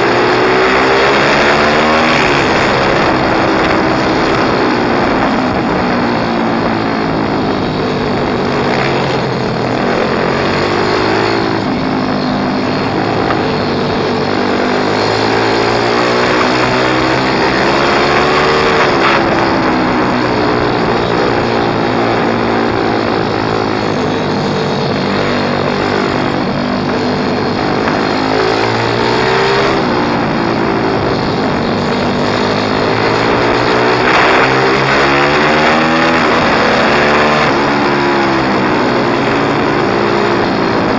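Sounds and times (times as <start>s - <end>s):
motorbike engine revving: 0.0s - 40.9s
steady rushing noise: 0.0s - 40.9s.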